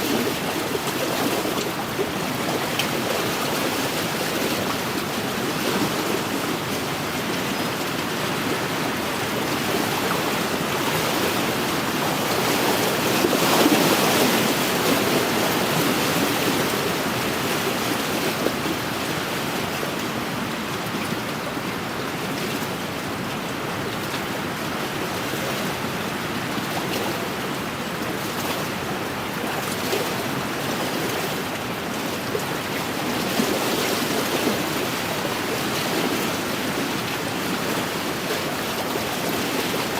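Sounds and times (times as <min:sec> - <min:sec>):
waves lapping on shore: 0:00.0 - 0:39.9.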